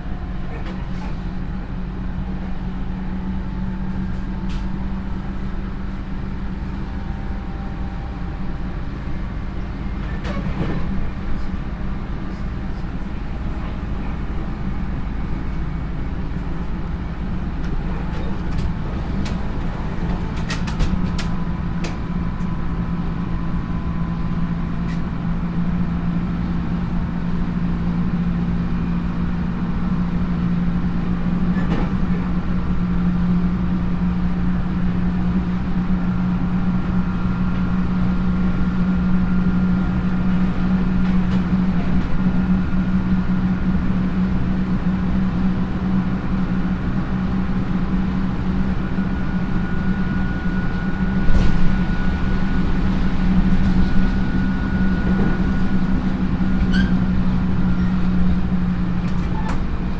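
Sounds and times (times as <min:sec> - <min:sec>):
train motor and gear hum: 0:00.0 - 0:59.9
wheels rumbling on rail: 0:00.0 - 0:59.9.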